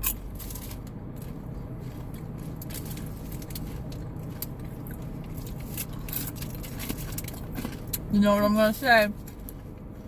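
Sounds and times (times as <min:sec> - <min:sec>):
person chewing crunchy snack: 0:00.0 - 0:08.1
car idling inside cabin: 0:00.0 - 0:10.0.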